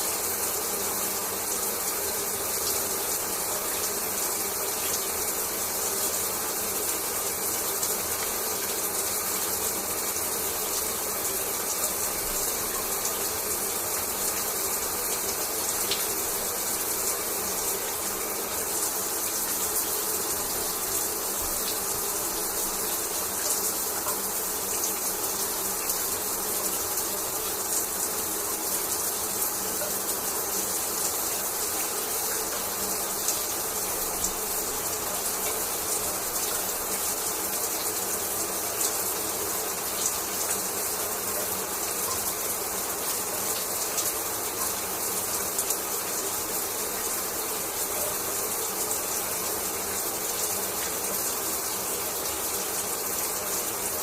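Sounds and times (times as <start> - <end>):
shower water spraying: 0.0 - 54.0.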